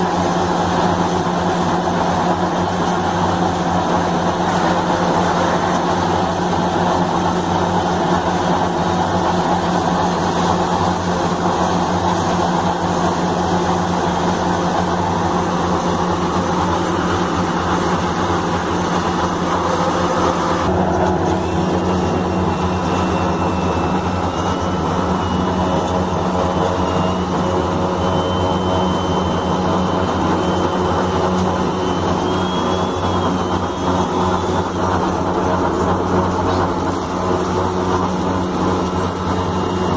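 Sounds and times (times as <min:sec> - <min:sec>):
diesel engines humming: 0:00.0 - 0:39.9
faint high wavering whine: 0:00.0 - 0:39.9.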